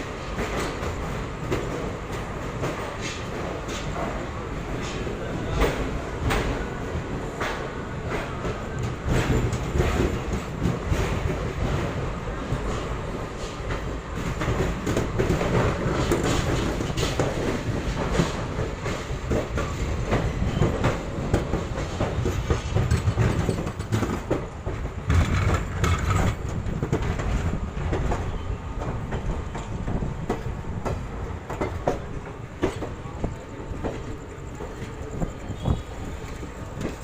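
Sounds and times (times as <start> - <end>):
train rumbling on track: 0.0 - 37.0
wheels clacking over rail joints: 0.0 - 37.0.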